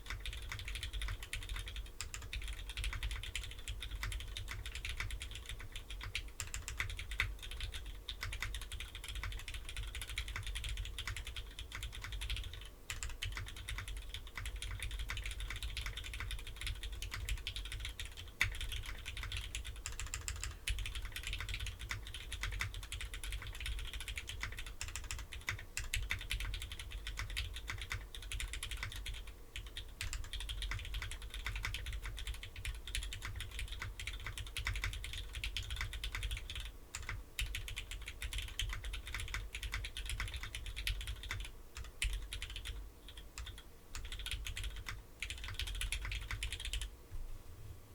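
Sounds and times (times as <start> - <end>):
typing on mechanical keyboard: 0.0 - 46.9.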